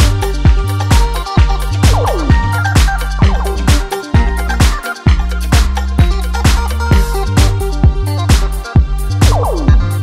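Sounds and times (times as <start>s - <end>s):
music with heavy beat: 0.0s - 10.0s.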